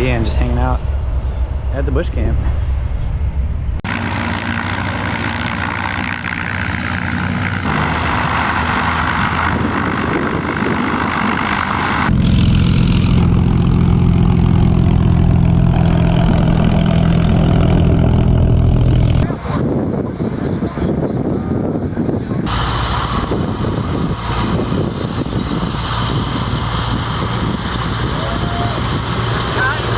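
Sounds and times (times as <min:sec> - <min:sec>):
low engine drone: 0:00.0 - 0:19.6, 0:22.4 - 0:29.9
propeller aircraft engines taxiing: 0:03.8 - 0:29.9.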